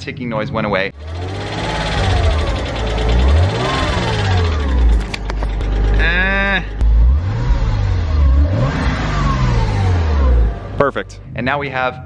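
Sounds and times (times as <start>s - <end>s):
car engine accelerating: 0.9s - 11.4s.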